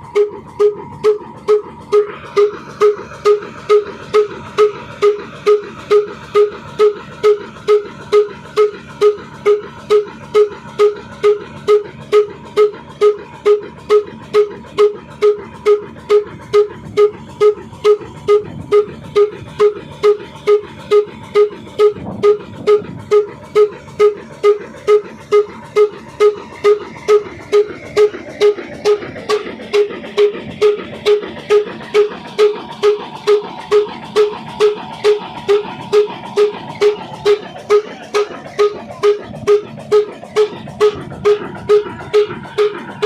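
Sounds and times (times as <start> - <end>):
stationary engine running slowly: 0.0 - 43.0.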